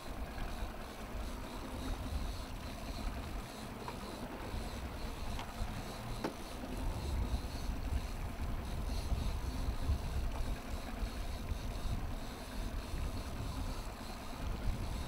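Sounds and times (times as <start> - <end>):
choppy water washing: 0.0 - 15.0
wind: 0.0 - 15.0.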